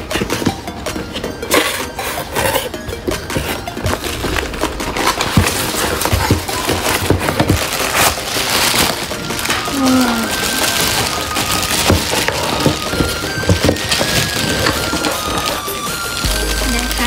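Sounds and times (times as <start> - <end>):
cardboard rustling and scraping: 1.5 - 17.0.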